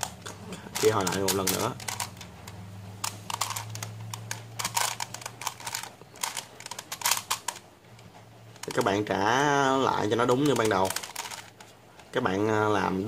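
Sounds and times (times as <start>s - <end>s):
plastic puzzle clicking: 0.0s - 9.1s, 10.0s - 12.2s
low steady hum: 0.0s - 13.0s.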